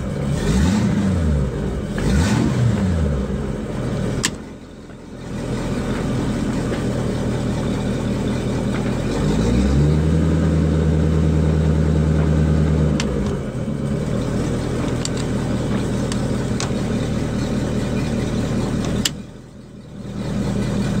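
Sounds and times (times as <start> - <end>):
boat engine revving and idling: 0.0 - 21.0.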